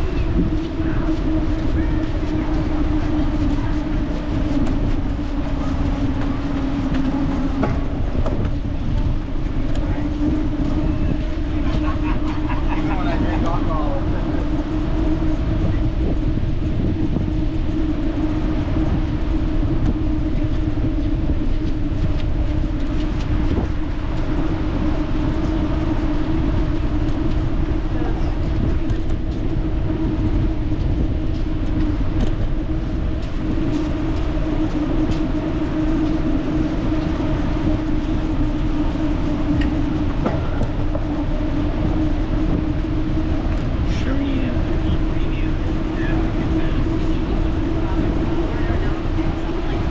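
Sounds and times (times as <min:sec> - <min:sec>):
steady hum: 0:00.0 - 0:49.9
wind rumbling over microphone: 0:00.0 - 0:49.9.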